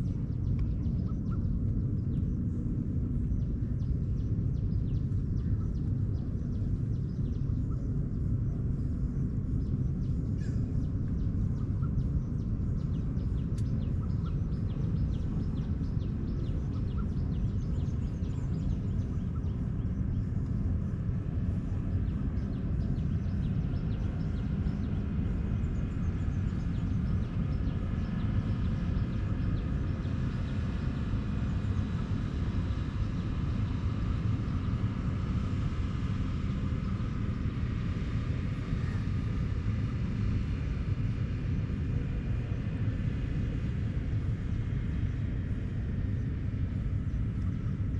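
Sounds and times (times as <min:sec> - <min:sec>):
distant engine drone: 0:00.0 - 0:47.9
steady low rumble: 0:00.0 - 0:47.9.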